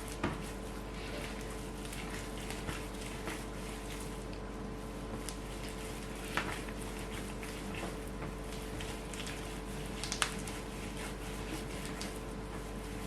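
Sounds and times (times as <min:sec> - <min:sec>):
dough being worked by hand: 0:00.0 - 0:13.0
electrical hum: 0:00.0 - 0:13.0.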